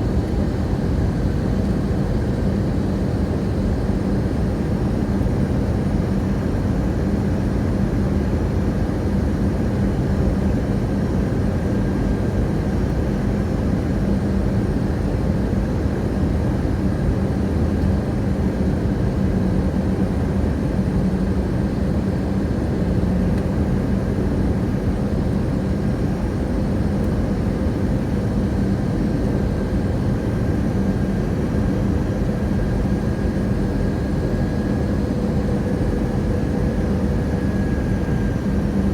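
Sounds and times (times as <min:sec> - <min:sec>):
airplane cabin engine drone: 0:00.0 - 0:38.9.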